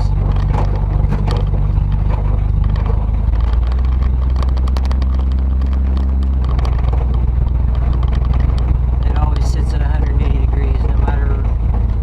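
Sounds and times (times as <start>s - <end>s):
car engine running while driving: 0.0s - 12.0s.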